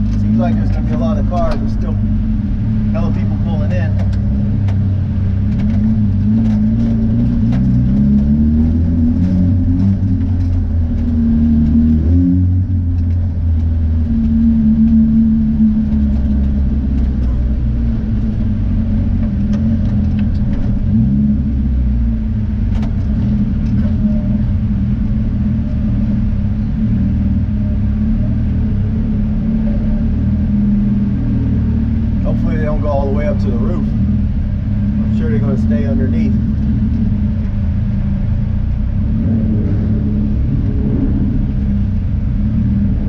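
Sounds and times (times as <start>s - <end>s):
car engine from inside cabin: 0.0s - 43.0s.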